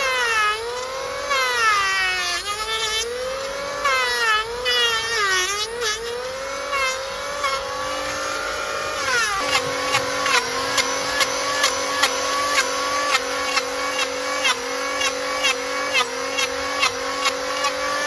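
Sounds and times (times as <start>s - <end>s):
electric grinder whining: 0.0s - 18.0s
grinder ticking as it cuts: 0.0s - 18.0s.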